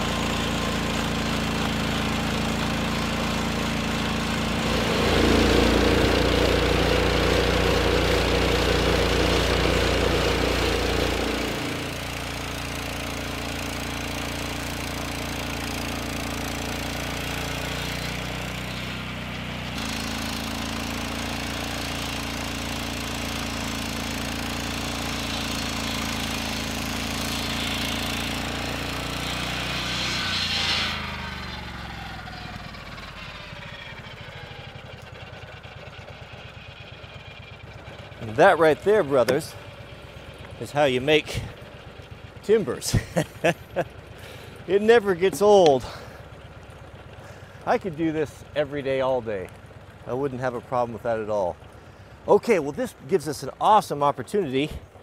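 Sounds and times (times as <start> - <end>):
engine drone: 0.0 - 55.0
sawmill blade sawing log: 0.0 - 55.0.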